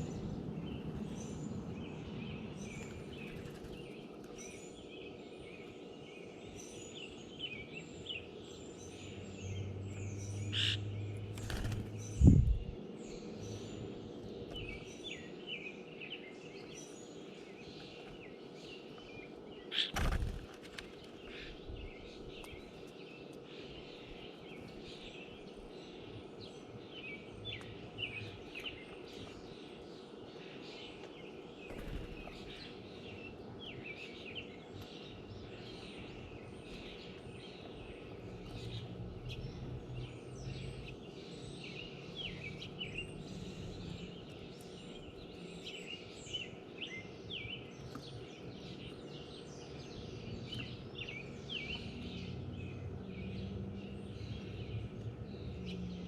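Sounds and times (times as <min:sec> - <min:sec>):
songbirds chirping: 0:00.0 - 0:56.0
steady background noise: 0:00.0 - 0:56.0.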